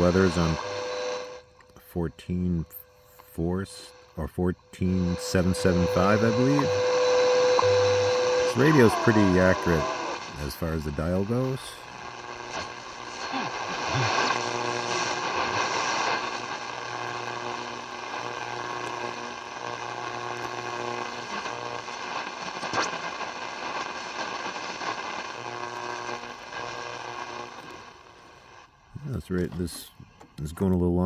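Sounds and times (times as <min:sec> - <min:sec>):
radio buzzing tone: 0:00.0 - 0:31.0
radio static hiss: 0:00.0 - 0:31.0.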